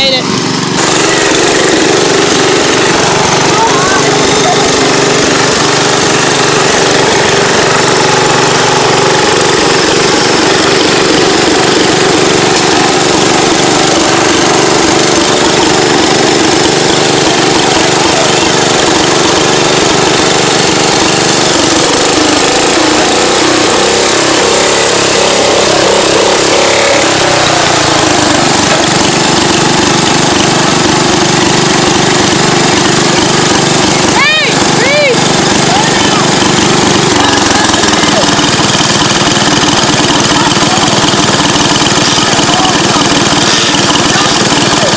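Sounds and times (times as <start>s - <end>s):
lawn tractor engine under load: 0.0s - 44.9s.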